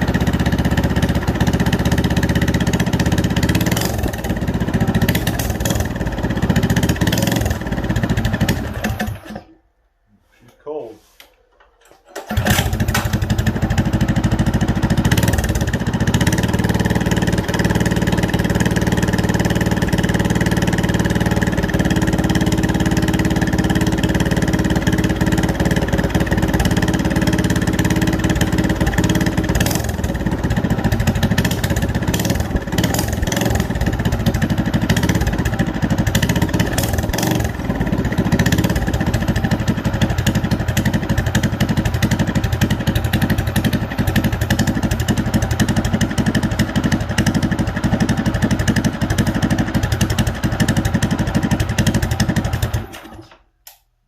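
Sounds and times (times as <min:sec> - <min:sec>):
minibike engine running: 0:00.0 - 0:09.4, 0:12.2 - 0:53.2.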